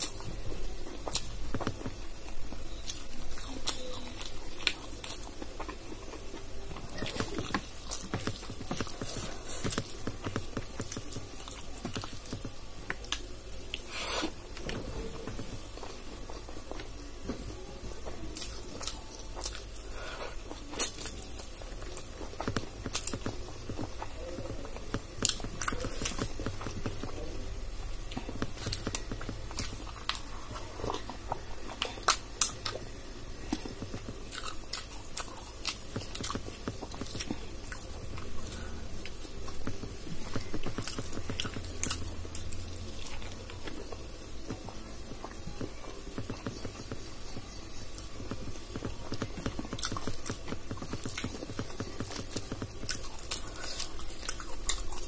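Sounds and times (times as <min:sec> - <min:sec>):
chewing with wet mouth clicks: 0:01.0 - 0:13.9, 0:20.5 - 0:27.3, 0:28.1 - 0:55.0.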